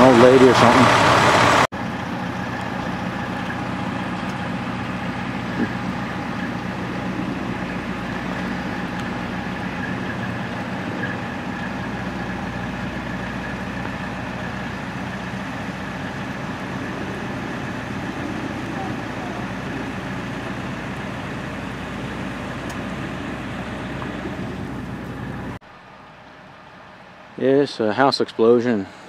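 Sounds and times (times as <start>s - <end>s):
fire truck engines idling: 0.0s - 29.0s.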